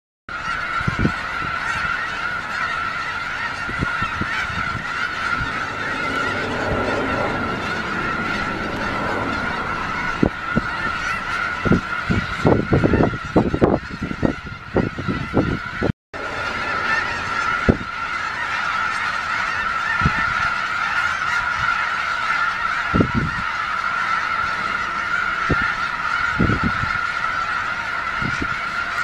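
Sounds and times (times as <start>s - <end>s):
geese honking: 0.3s - 29.0s.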